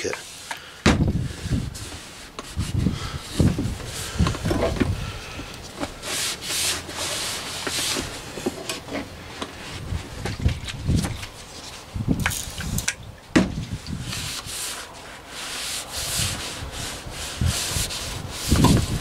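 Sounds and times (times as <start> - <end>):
rubbing and scraping on heater: 0.0 - 12.8, 13.6 - 19.0.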